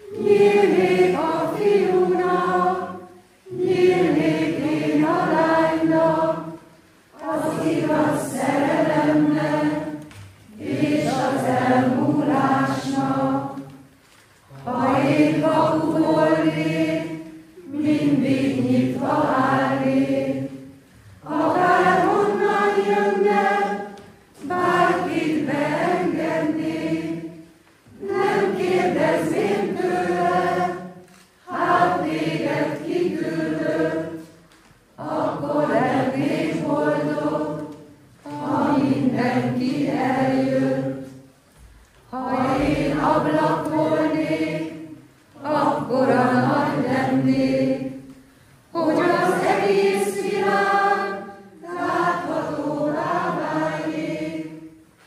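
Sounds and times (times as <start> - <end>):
choir singing unaccompanied: 0.0 - 41.4, 42.1 - 55.0.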